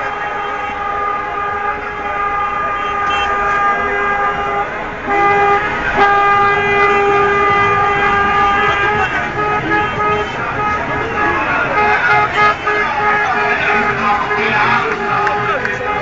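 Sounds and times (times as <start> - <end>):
car horns honking: 0.0 - 16.0.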